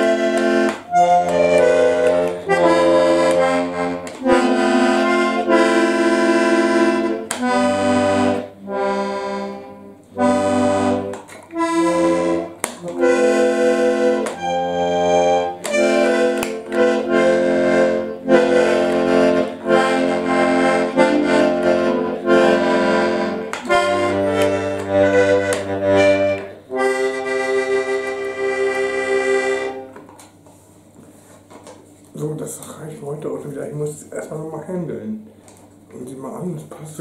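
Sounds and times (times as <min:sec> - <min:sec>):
button accordion chords: 0:00.0 - 0:30.4.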